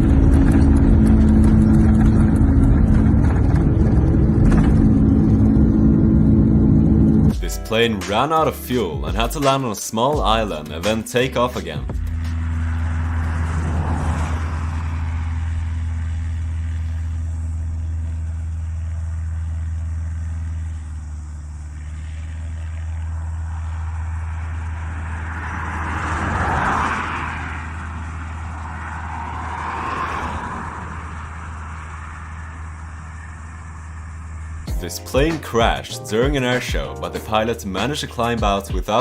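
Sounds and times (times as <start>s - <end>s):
rushing noise: 0.0s - 7.5s, 11.8s - 36.8s
small plane engine droning: 0.0s - 39.0s.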